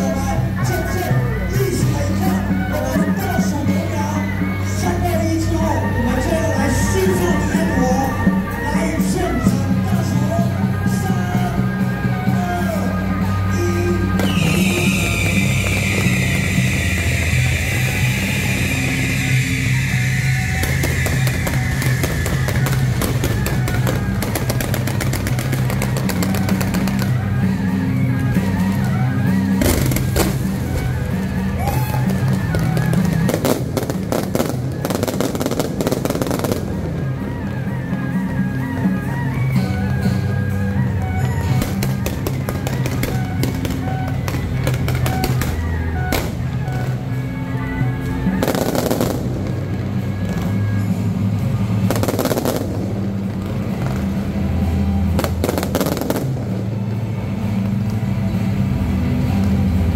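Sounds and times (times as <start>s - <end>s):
background music: 0.0s - 59.9s
fireworks crackling and banging: 6.7s - 59.9s.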